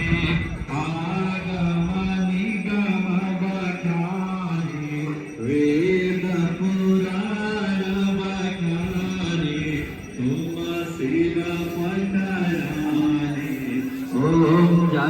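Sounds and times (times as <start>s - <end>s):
man chanting long notes: 0.0s - 15.0s.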